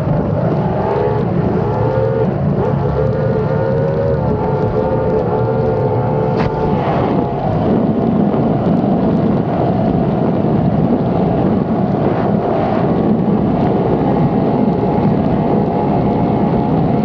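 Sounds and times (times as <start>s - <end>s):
outboard boat engine drone: 0.0s - 17.0s
rushing water: 0.0s - 17.0s
wind buffeting microphone: 0.0s - 17.0s.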